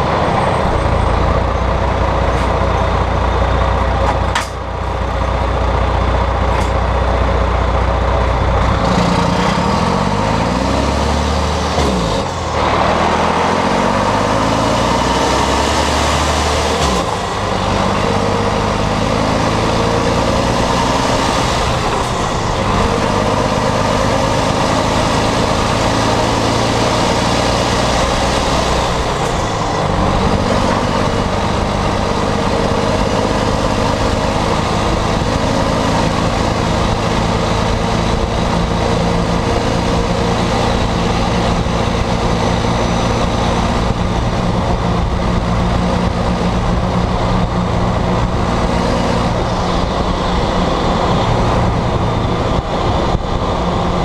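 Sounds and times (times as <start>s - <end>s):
loud raw diesel exhaust: 0.0s - 54.0s.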